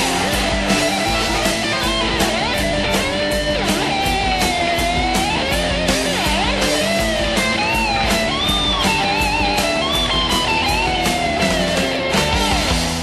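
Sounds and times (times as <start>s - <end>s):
electric guitar lead melody: 0.0s - 13.0s
steady drum beat: 0.0s - 13.0s.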